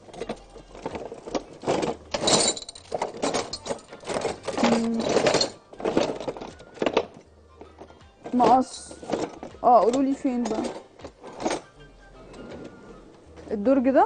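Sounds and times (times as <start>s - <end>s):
metal utensils clattering in drawer: 0.0s - 11.7s.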